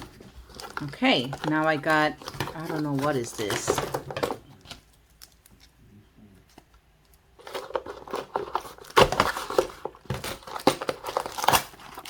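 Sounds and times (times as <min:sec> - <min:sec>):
packaging crinkling and tearing: 0:00.0 - 0:05.8, 0:06.4 - 0:12.0.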